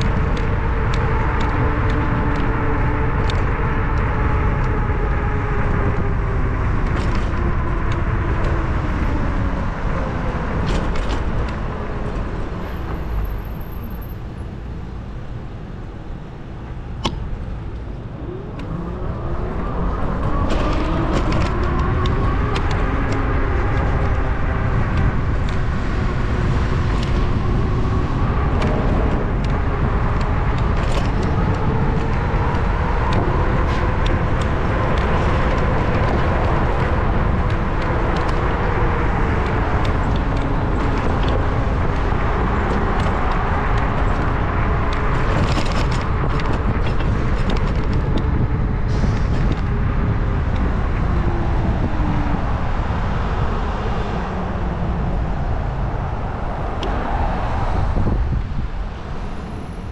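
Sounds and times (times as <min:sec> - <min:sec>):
road rumble: 0:00.0 - 0:59.9
wind buffeting: 0:00.0 - 0:59.9.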